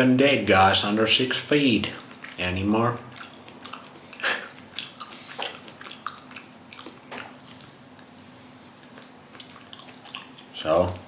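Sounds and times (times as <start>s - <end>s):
person chewing wetly: 0.9s - 11.0s.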